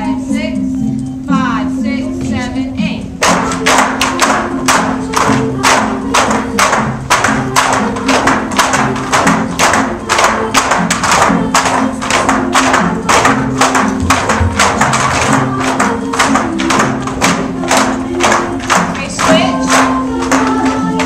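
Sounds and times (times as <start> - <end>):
bamboo poles clacking: 3.2 - 21.0.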